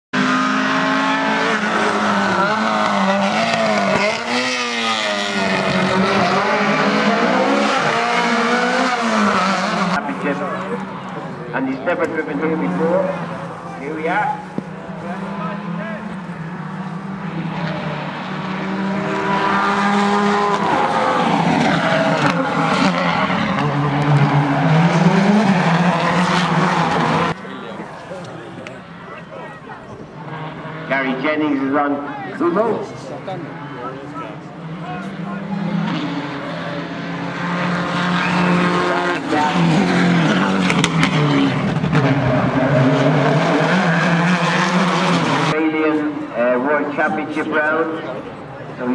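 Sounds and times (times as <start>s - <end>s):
rally car engine: 0.2s - 48.9s.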